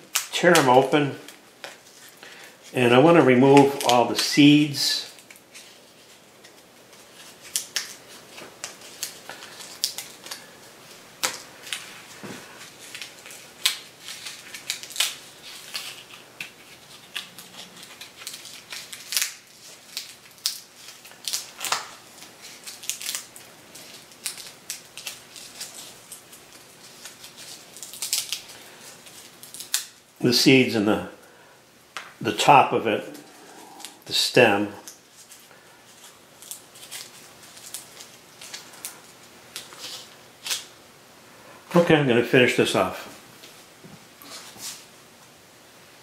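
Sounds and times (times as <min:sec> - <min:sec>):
dried chile skins crackling: 0:00.0 - 0:40.8.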